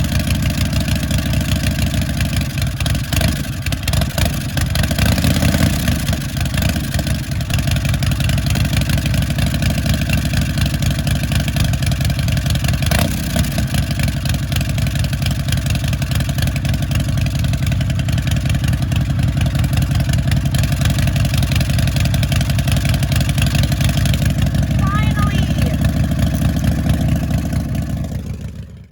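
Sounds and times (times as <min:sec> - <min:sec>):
motorcycle engine idling: 0:00.0 - 0:28.9.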